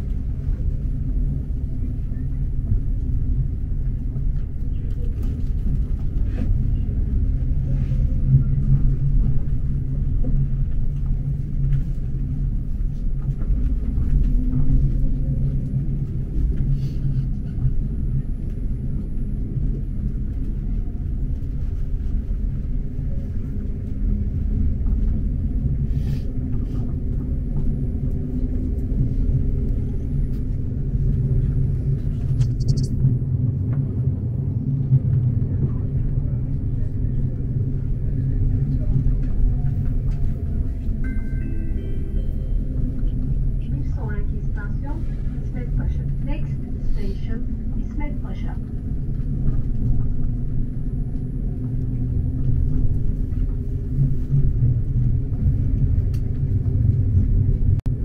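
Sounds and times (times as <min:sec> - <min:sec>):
tram rumbling on track: 0:00.0 - 0:58.0.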